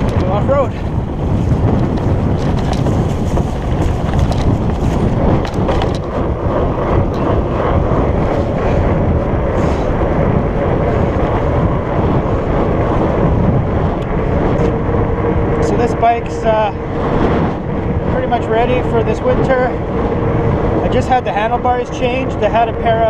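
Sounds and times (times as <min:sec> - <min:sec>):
tyres rumbling over rough ground: 0:00.0 - 0:23.0
wind noise on microphone: 0:00.0 - 0:23.0.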